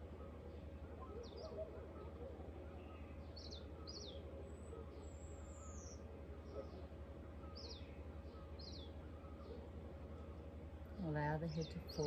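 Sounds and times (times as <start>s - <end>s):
birds chirping: 0.0s - 12.0s
faint low hum: 0.0s - 12.0s.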